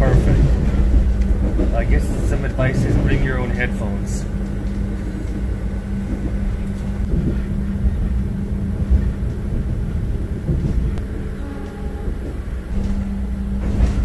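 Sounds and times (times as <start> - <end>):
steady hum: 0.0 - 14.0
train carriage rumble: 0.0 - 14.0.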